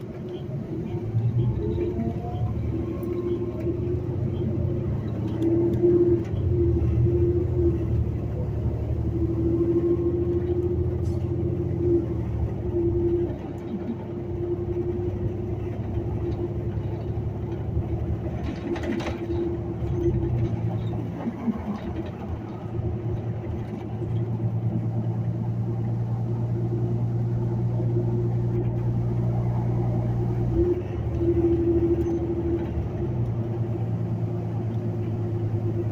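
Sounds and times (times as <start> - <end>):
bus engine hum: 0.0 - 35.9
drivetrain whine: 0.0 - 35.9.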